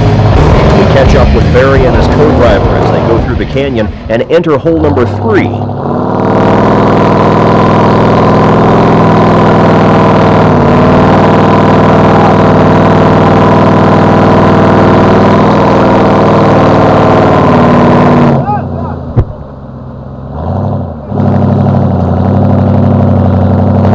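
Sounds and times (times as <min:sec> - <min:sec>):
truck engine running loudly: 0:00.0 - 0:23.9.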